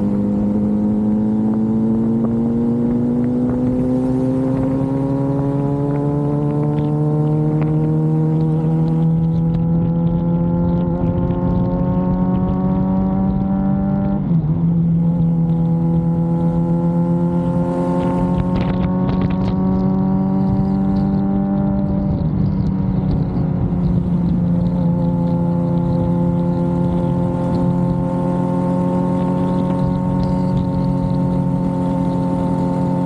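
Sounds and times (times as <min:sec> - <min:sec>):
motorcycle engine revving: 0:00.0 - 0:33.0
wind over microphone: 0:00.0 - 0:33.0.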